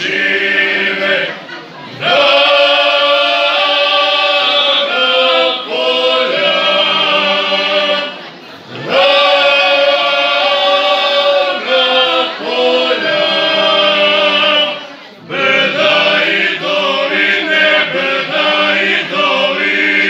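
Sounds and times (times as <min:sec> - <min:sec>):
male vocal group singing a cappella: 0:00.0 - 0:01.4, 0:02.0 - 0:20.0.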